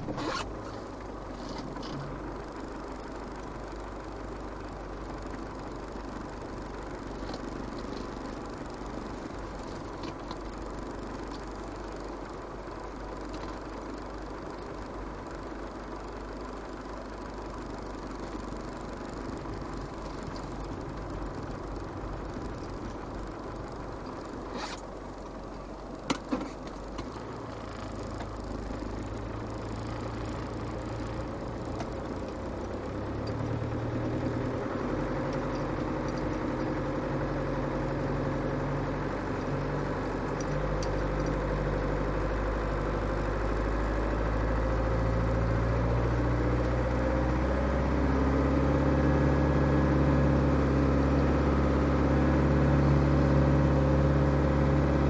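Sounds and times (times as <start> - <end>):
diesel engine running in cab: 0.0 - 55.0.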